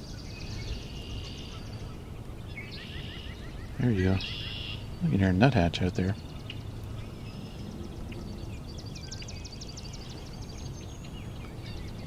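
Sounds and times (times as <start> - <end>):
faint bird calls: 0.0 - 12.0
low steady background: 0.0 - 12.0.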